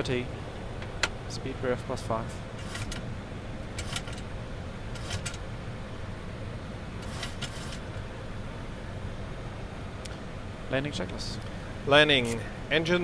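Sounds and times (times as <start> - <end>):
rumbling cockpit noise: 0.0 - 13.0.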